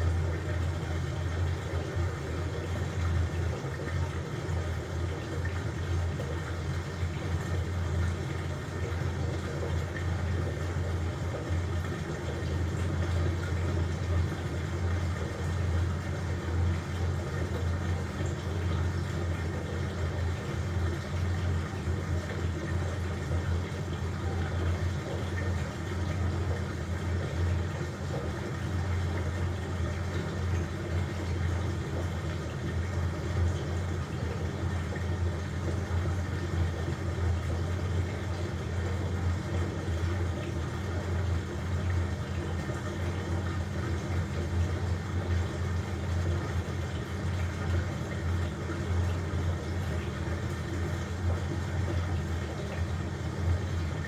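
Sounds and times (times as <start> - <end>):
washing machine churning: 0.0 - 54.0
washing machine low hum: 0.0 - 54.0.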